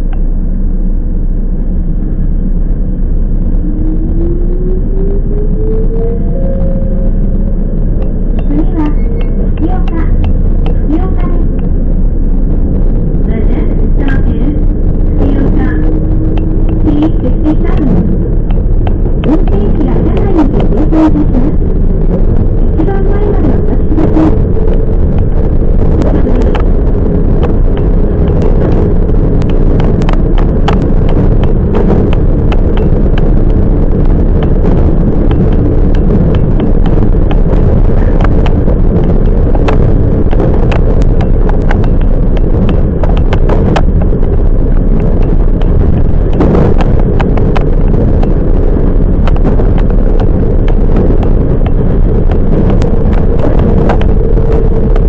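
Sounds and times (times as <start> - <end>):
electric train rumble and hum: 0.0 - 55.0.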